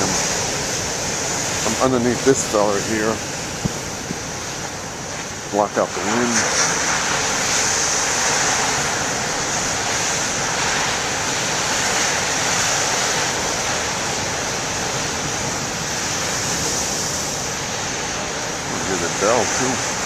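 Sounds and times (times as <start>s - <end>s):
storm surf washing on shore: 0.0s - 20.0s.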